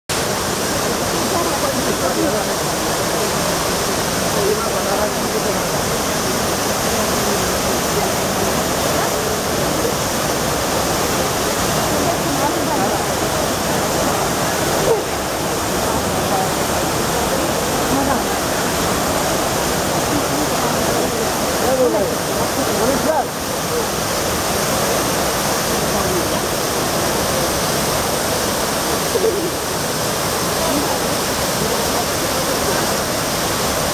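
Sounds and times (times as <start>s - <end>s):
fountain water pouring: 0.1s - 33.9s
faint voices: 0.2s - 33.9s.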